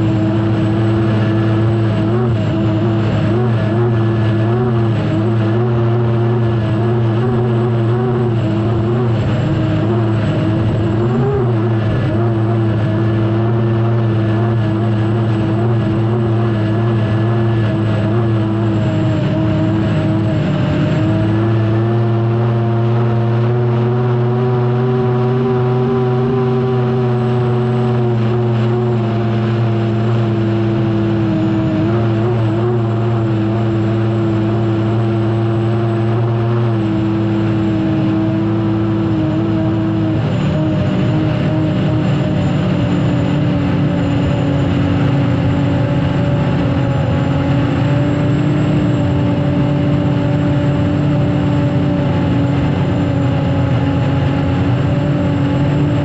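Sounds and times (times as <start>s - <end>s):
turbine engine running: 0.0s - 56.0s.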